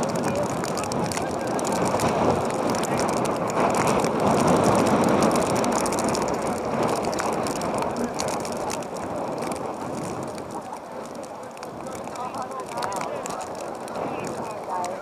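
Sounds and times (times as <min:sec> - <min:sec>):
distant voices: 0:00.0 - 0:15.0.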